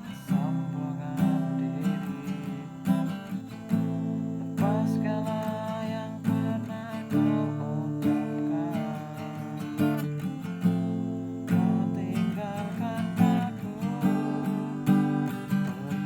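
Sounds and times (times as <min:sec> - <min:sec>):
acoustic guitar strumming chords: 0:00.0 - 0:16.0
man singing: 0:00.0 - 0:16.0.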